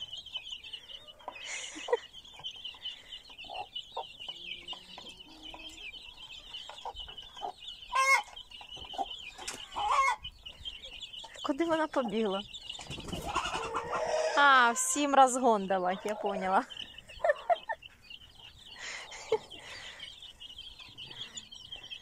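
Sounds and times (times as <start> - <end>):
chicken clucks: 0.0 - 22.0
chicks peeping: 0.0 - 22.0.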